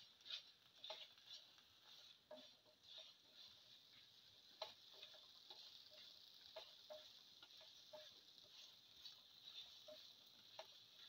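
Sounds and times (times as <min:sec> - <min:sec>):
spatula stirring in a pan: 0:00.0 - 0:11.0.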